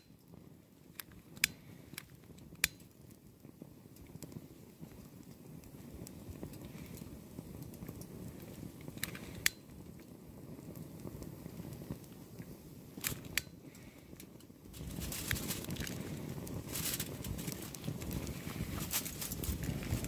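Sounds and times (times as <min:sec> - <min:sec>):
fire crackles: 0:00.0 - 0:20.0
flames rumbling: 0:00.0 - 0:20.0.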